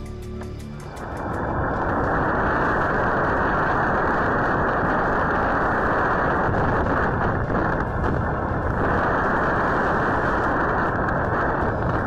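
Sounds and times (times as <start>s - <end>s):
tornado winds rushing: 0.6s - 12.0s.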